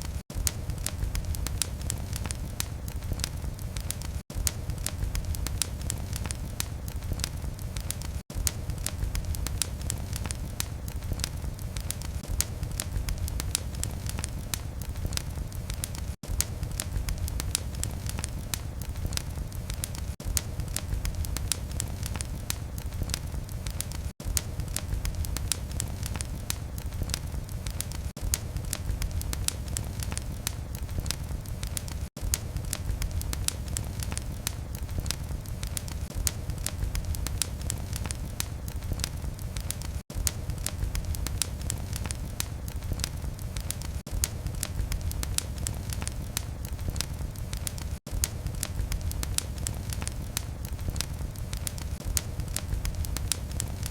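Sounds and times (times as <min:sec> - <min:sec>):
fireplace fire crackling: 0:00.0 - 0:53.9.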